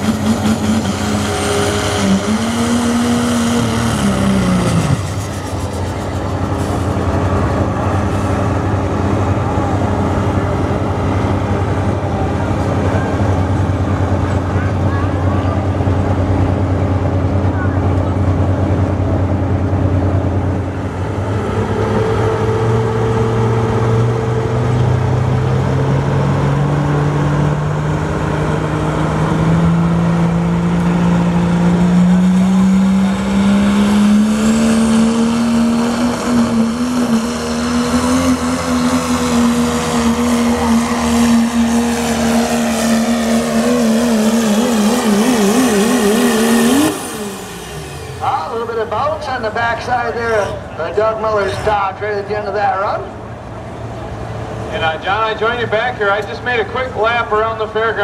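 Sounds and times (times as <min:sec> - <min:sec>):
diesel truck engine at full throttle: 0:00.0 - 0:58.0.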